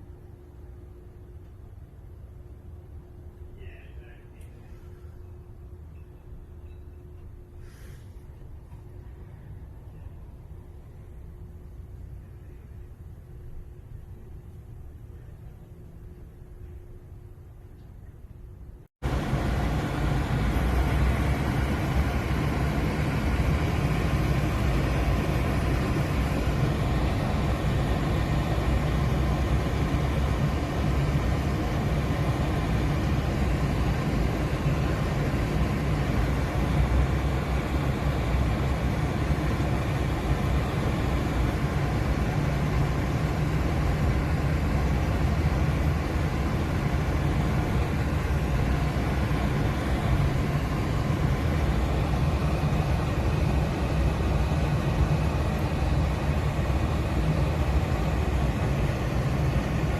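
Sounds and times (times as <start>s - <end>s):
low rumble and hum: 0.0s - 59.9s.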